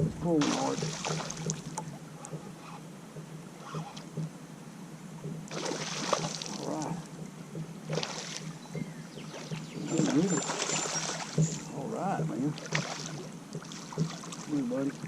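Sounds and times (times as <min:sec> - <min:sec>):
water splashing: 0:00.0 - 0:04.3, 0:05.2 - 0:15.0.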